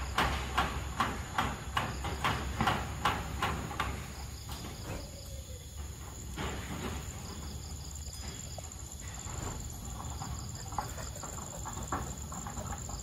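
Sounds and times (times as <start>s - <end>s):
crickets chirping: 0.0s - 13.0s
high insect drone: 0.0s - 13.0s.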